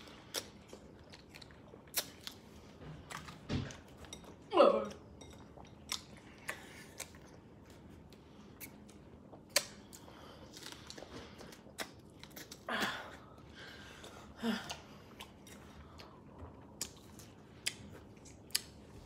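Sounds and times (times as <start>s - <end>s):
faint chewing and mouth clicks: 0.0s - 19.0s.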